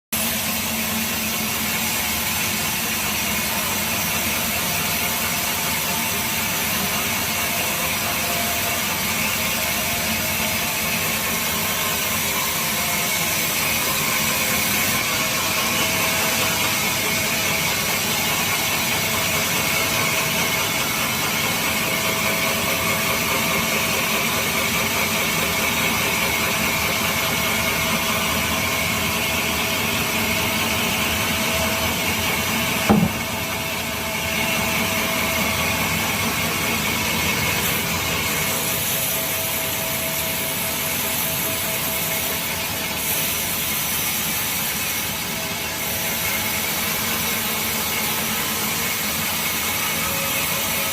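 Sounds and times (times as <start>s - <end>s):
sawmill saw cutting log: 0.2s - 50.9s.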